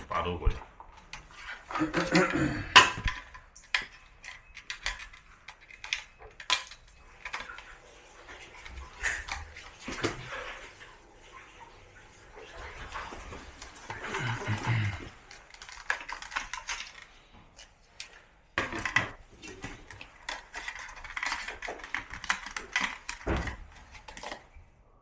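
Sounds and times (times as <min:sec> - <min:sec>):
plastic parts and tools clicking: 0:00.9 - 0:10.5, 0:12.8 - 0:24.7.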